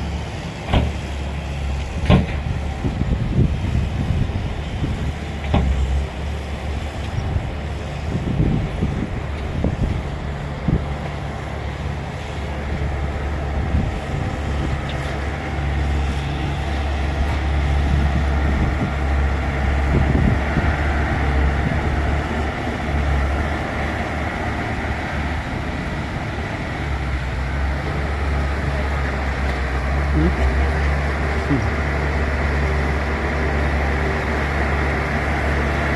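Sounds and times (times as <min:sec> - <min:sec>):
bulldozer diesel engine droning: 0:00.0 - 0:35.9.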